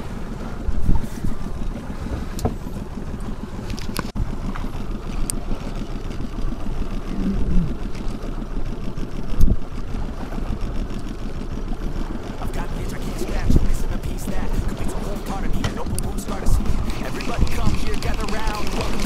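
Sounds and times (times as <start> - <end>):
water around a boat: 0.0 - 19.0
wind: 0.0 - 19.0.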